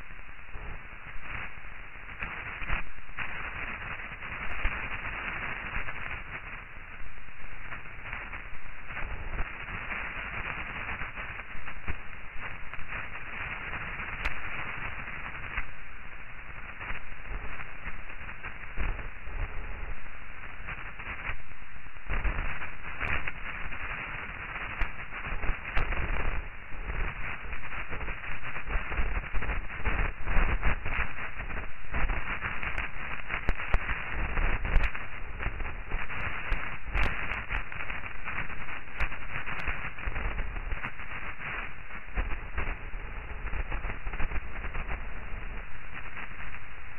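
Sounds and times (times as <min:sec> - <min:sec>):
muffled crackling noise: 0:00.0 - 0:46.9.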